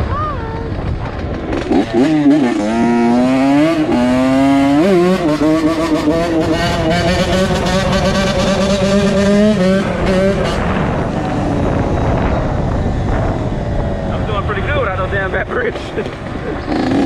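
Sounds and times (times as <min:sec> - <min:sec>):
two-stroke motorcycle engine: 0:00.0 - 0:15.0, 0:15.7 - 0:17.0.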